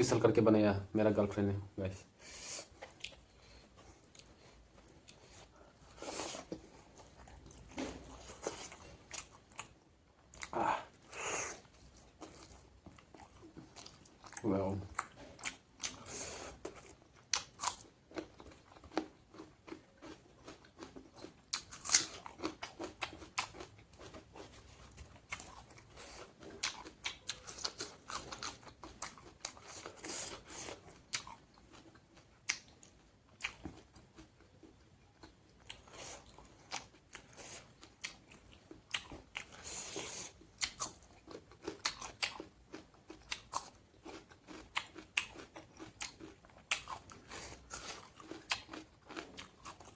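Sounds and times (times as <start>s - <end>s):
wet chewing and crunching: 2.6s - 49.9s.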